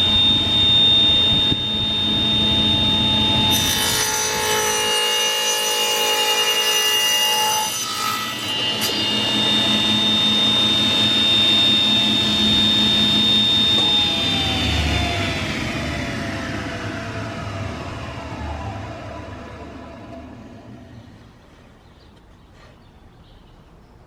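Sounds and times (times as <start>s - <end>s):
table saw cutting wood: 0.0s - 20.9s.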